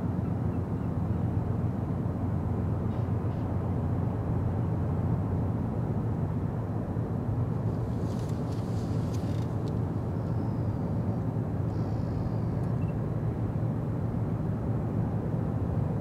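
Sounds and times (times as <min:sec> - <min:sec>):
distant ship engines droning: 0:00.0 - 0:16.0.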